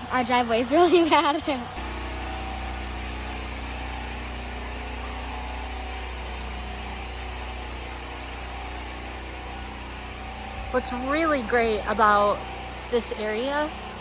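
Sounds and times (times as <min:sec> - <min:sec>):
vehicle engine running: 0:01.8 - 0:14.0.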